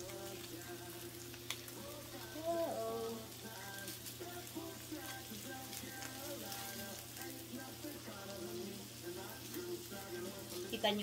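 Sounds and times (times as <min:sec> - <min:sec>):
meatballs sizzling in a skillet: 0:00.0 - 0:11.0.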